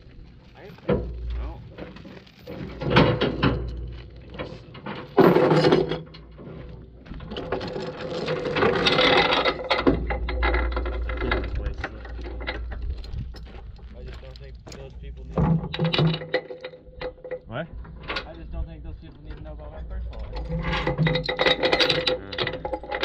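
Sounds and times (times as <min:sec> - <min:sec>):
steel chain rattling and clanking: 0:00.4 - 0:18.5, 0:19.1 - 0:23.0.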